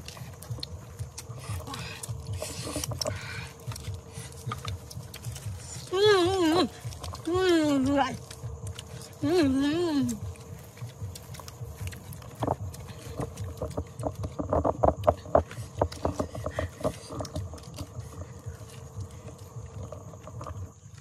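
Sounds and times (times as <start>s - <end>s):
greens snapping and crunching: 0.0s - 21.0s.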